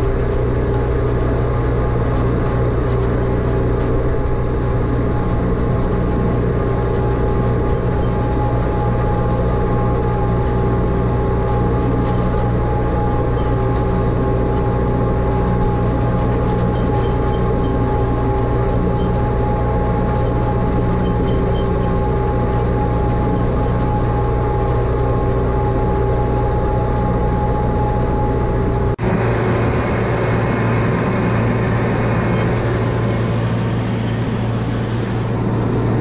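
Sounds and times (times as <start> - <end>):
tractor engine running under load: 0.0 - 36.0.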